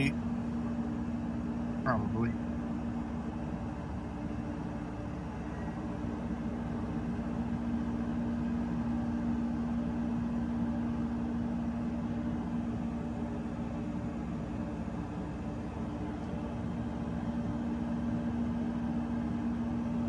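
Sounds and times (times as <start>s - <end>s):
air-conditioning unit humming: 0.0s - 20.0s.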